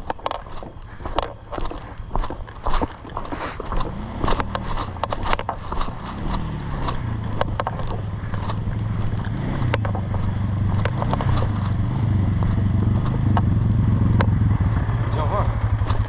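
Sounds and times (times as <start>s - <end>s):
footsteps on forest floor: 0.0s - 14.9s
motorbike engine running: 0.0s - 16.0s.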